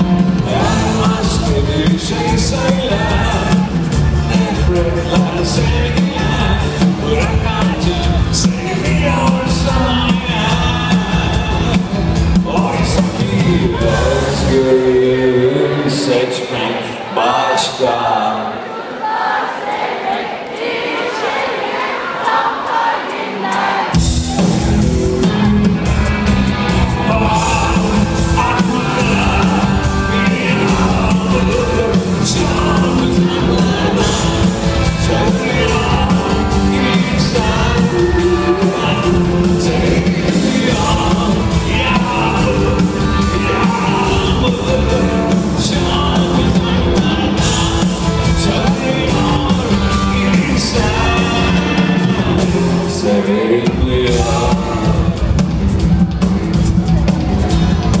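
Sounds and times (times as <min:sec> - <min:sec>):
rock band playing loudly: 0:00.0 - 0:16.9, 0:22.2 - 0:58.0
person singing: 0:00.0 - 0:18.5, 0:26.6 - 0:56.2.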